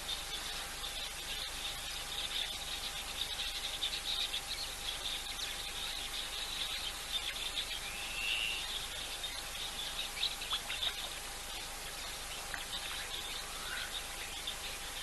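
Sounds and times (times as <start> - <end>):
faint steady hum: 0.0 - 15.0
insects chirring: 1.5 - 15.0.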